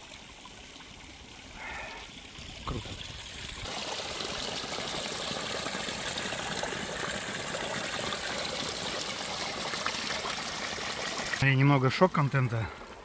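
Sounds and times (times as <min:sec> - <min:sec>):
water pouring from trough: 0:00.0 - 0:13.0.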